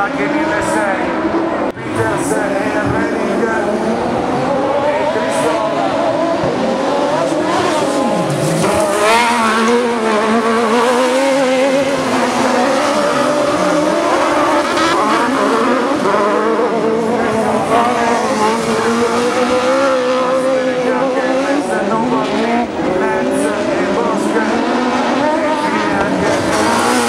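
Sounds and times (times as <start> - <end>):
buggy engines revving: 0.0 - 27.0.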